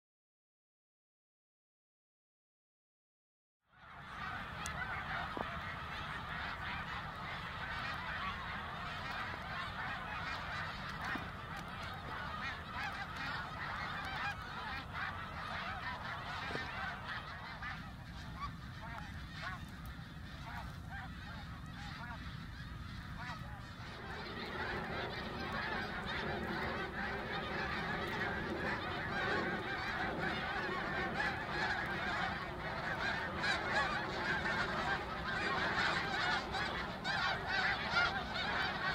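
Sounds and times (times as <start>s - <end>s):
geese honking: 3.8s - 38.9s.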